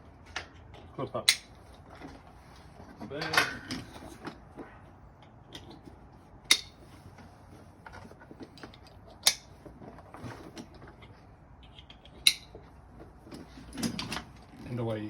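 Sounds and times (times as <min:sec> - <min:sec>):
handling leather bag and tools: 0:00.0 - 0:15.0.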